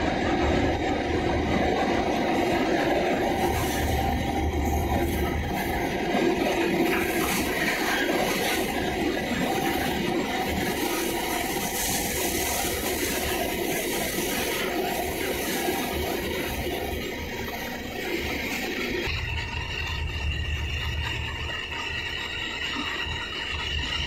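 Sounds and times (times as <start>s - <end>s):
churning foaming sea water: 0.0s - 24.0s.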